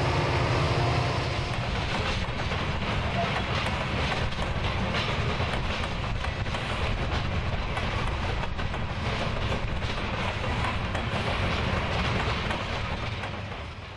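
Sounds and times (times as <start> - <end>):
freight train rumbling on rails: 0.0 - 13.9
wheel clicks on rail joints: 1.4 - 13.9.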